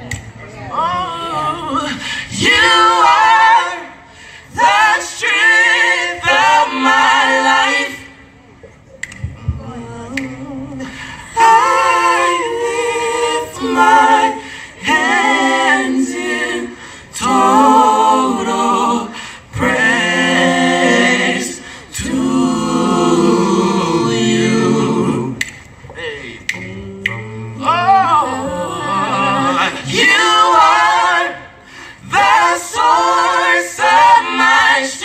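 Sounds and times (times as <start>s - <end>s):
group singing in harmony: 0.8s - 8.3s, 9.5s - 35.0s.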